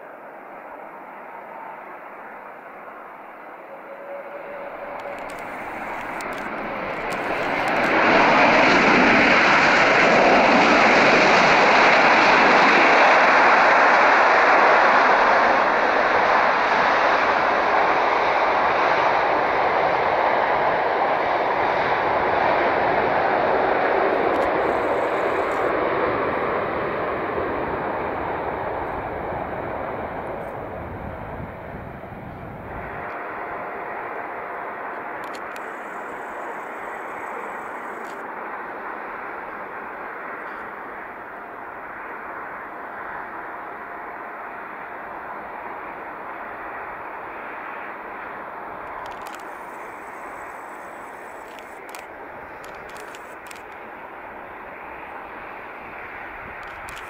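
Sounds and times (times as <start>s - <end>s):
jet engines rushing: 0.2s - 57.0s.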